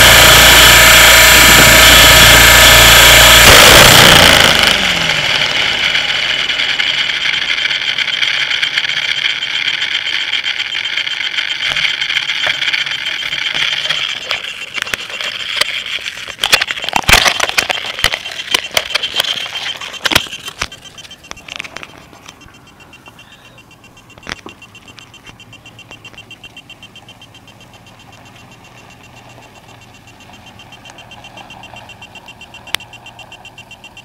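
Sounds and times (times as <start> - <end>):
helicopter high whine: 0.0 - 34.0
sharp clicks and knocks: 0.0 - 34.0.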